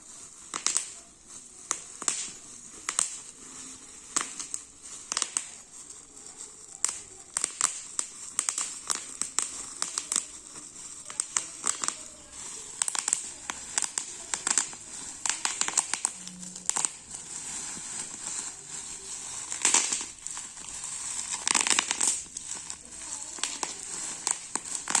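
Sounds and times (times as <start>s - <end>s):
bubble wrap popping: 0.0s - 25.0s
plastic crinkling: 0.0s - 25.0s.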